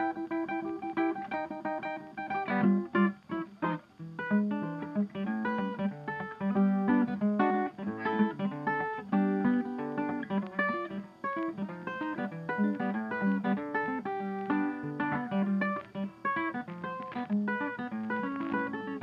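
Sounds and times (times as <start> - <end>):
plucked acoustic guitar notes: 0.0 - 19.0.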